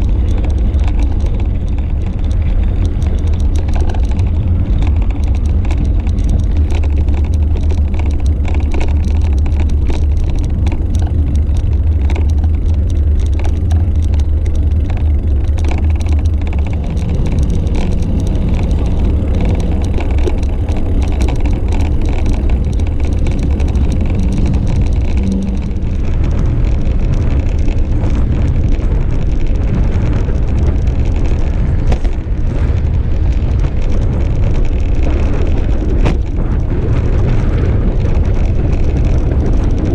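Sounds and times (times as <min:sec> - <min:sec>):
motor traffic: 0:00.0 - 0:39.9
road noise from bicycle: 0:00.0 - 0:39.9
rumbling wind noise: 0:00.0 - 0:39.9.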